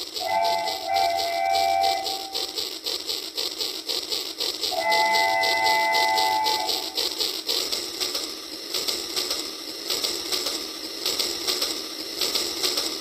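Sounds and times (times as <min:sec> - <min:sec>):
toy train motor whirring: 0:00.0 - 0:13.0.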